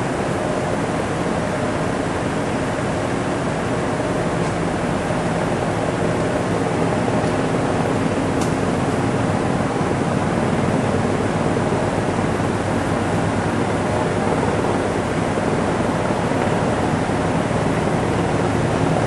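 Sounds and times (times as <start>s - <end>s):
helicopter engines and rotors: 0.0s - 19.0s.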